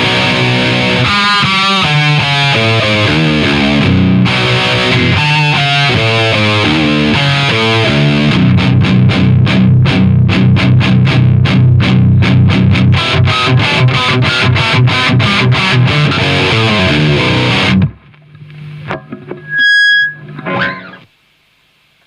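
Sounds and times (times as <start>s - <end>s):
distorted electric guitar riff: 0.0s - 21.2s.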